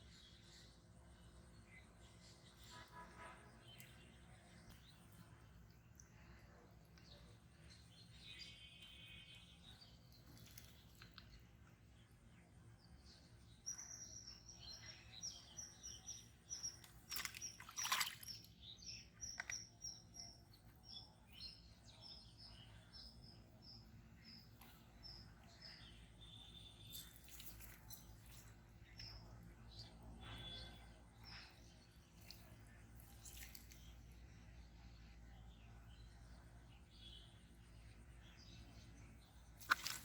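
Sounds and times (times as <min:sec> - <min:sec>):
bird chirping: 0:06.0 - 0:40.0.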